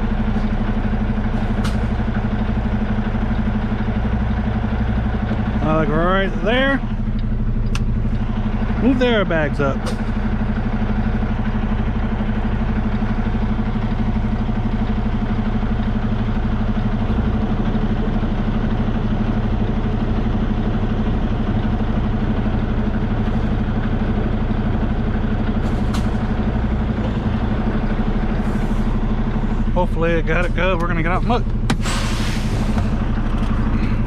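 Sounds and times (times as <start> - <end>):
diesel truck engine idling: 0.0 - 34.0.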